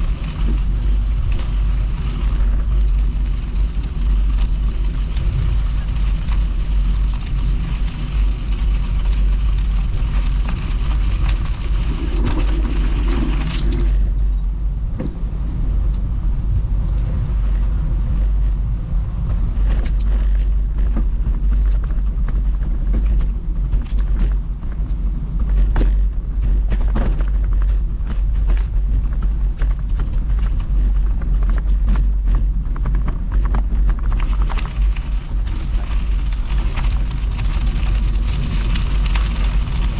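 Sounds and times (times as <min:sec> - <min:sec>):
bicycle tyres rolling: 0:00.0 - 0:39.9
wind rumbling on microphone: 0:00.0 - 0:39.9.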